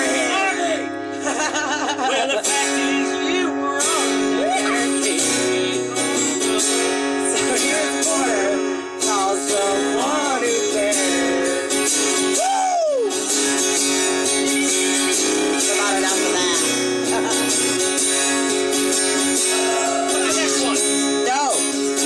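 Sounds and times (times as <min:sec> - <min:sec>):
person singing: 0:00.0 - 0:01.4, 0:02.1 - 0:13.1, 0:14.3 - 0:21.2
acoustic guitar strumming: 0:00.0 - 0:22.0.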